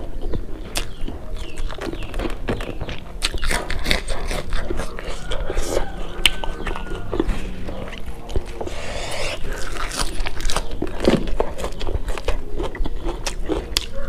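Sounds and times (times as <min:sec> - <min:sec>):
pea shoots crunching: 0:00.0 - 0:14.0.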